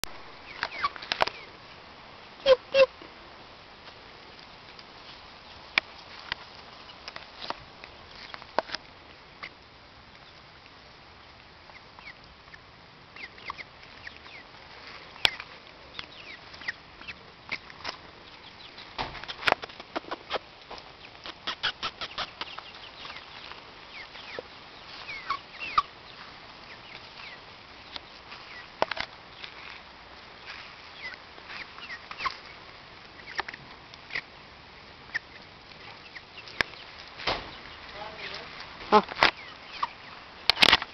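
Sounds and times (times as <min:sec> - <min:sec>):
chickens clucking: 0:00.3 - 0:03.2, 0:03.8 - 0:40.9.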